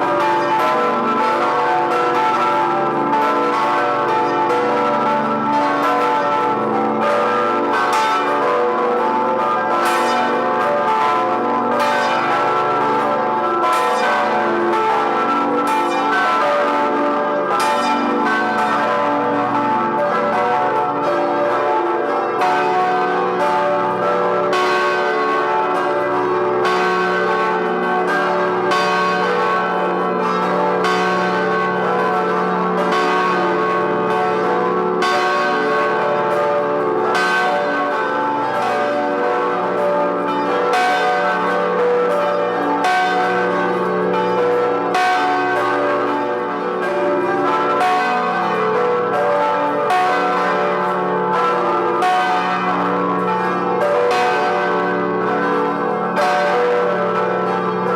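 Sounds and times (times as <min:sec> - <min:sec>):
large church bells pealing: 0:00.0 - 0:57.9.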